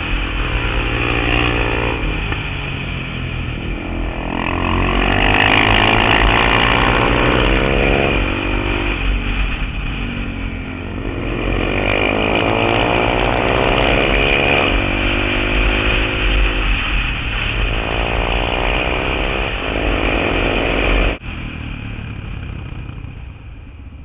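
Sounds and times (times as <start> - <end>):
motorcycle engine accelerating: 0.0 - 24.0
wind noise on mic: 0.0 - 24.0.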